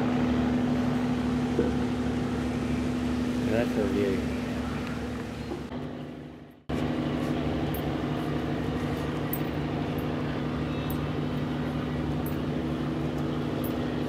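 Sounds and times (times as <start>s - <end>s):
distant road traffic: 0.0s - 14.0s
low machine drone: 0.0s - 14.0s.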